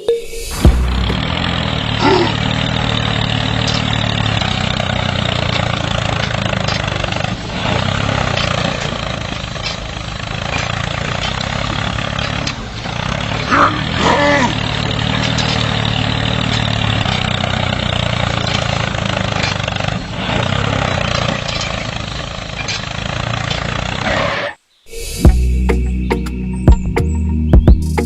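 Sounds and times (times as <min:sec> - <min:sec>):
small tractor engine running: 0:00.5 - 0:24.4.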